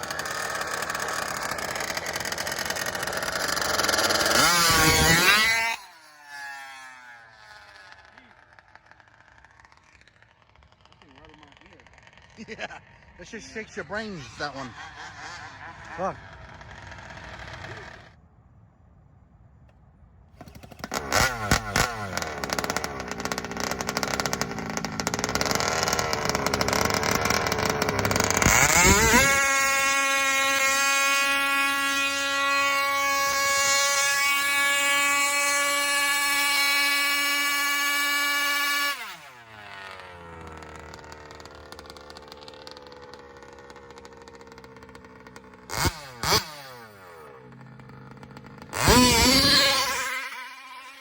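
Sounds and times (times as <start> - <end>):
model car engine revving: 0.0 - 18.2, 20.4 - 51.0.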